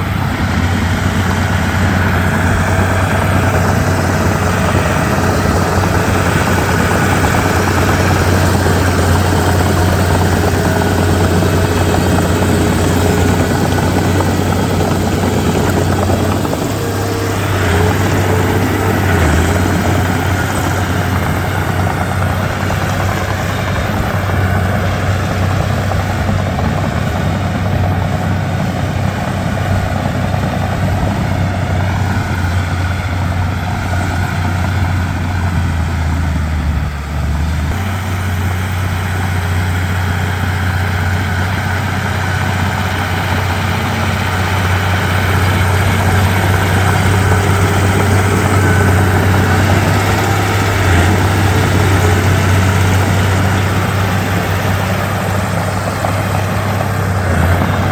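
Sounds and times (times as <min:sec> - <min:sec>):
bulldozer diesel engine droning: 0:00.0 - 0:57.9.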